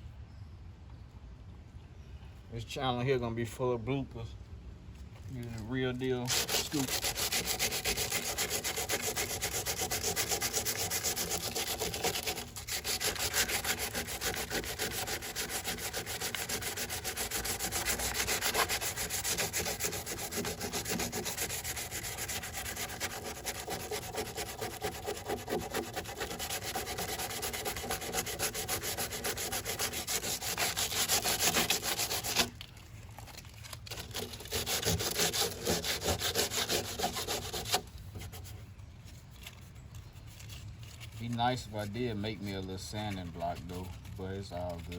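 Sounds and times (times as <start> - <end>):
sandpaper rubbing on body filler: 5.6 - 32.6, 33.6 - 38.5, 39.3 - 44.9.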